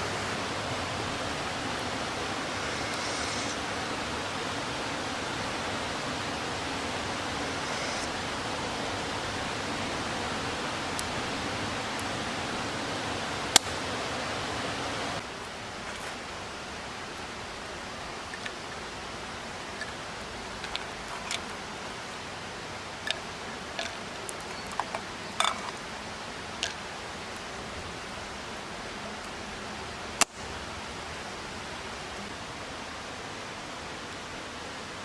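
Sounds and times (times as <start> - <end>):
mountain stream rushing: 0.0 - 35.0.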